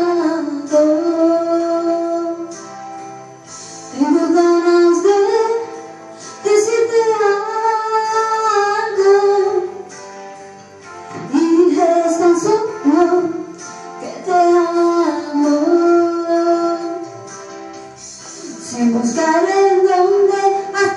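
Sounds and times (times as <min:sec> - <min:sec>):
woman singing into microphone: 0:00.0 - 0:02.8, 0:03.6 - 0:09.9, 0:11.1 - 0:17.4, 0:18.0 - 0:20.9
instrumental accompaniment: 0:00.0 - 0:20.9.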